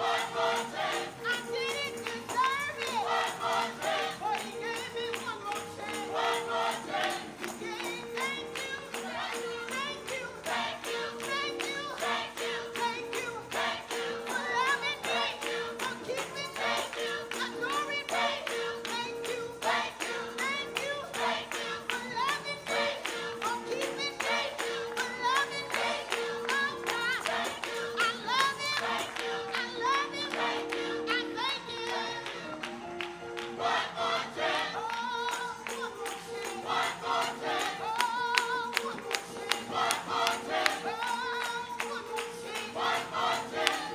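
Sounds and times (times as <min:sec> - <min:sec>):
gospel choir singing: 0:00.0 - 0:43.9.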